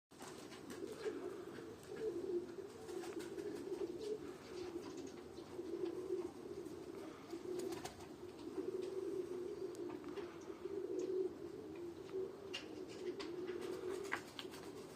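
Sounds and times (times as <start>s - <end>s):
pigeons cooing: 0.2s - 14.9s.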